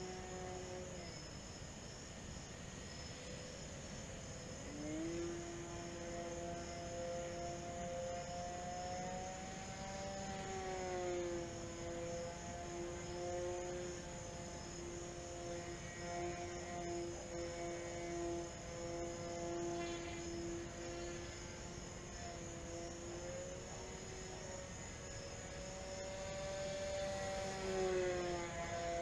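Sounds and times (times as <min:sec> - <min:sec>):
rc plane motor whining: 0:04.4 - 0:29.0.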